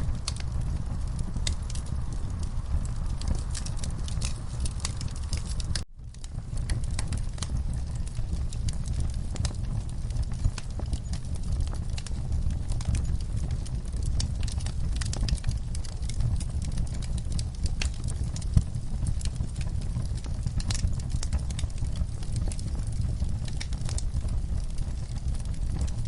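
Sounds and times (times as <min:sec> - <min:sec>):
logs crackling and popping: 0:00.0 - 0:26.0
low rumble of flame: 0:00.0 - 0:26.0.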